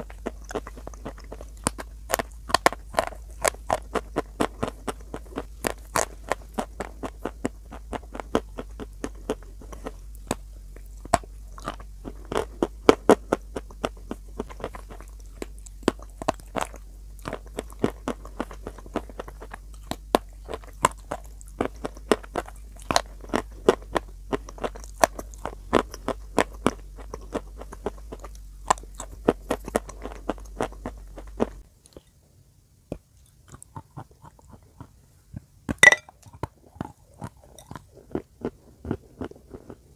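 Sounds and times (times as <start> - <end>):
crunching and chewing chalk: 0.0 - 32.2, 32.8 - 39.9
low steady hum: 0.0 - 39.9.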